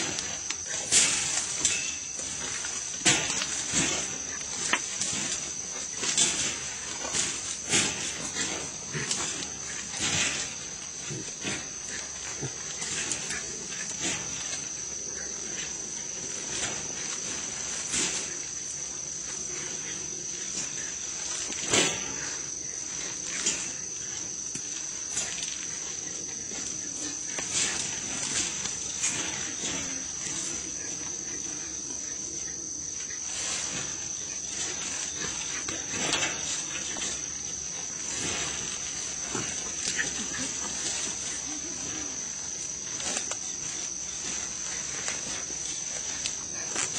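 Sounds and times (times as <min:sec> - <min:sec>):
piglets rustling in wire cage: 0:00.0 - 0:14.8, 0:15.4 - 0:31.7, 0:33.2 - 0:46.9
insects droning: 0:00.0 - 0:46.9.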